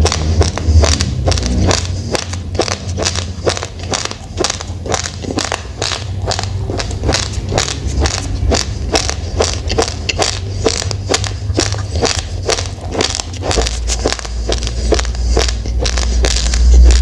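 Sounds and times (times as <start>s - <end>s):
low rumble: 0.0s - 17.0s
person chewing raw rice: 0.0s - 17.0s.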